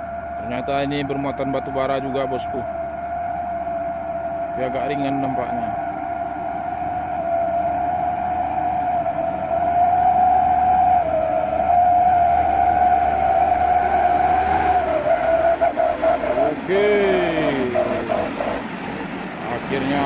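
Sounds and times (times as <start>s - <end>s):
steady high whine: 0.0s - 20.0s
truck engine labouring uphill: 0.0s - 20.0s.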